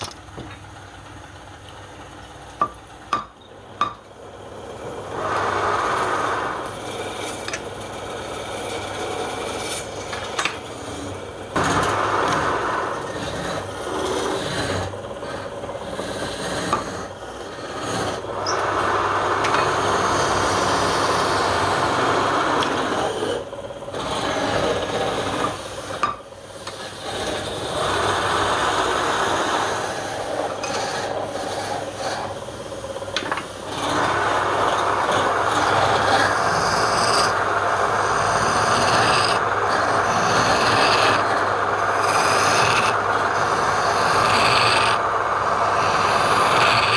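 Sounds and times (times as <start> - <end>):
lathe humming: 0.0 - 46.9
lathe tool scraping wood: 3.8 - 46.9.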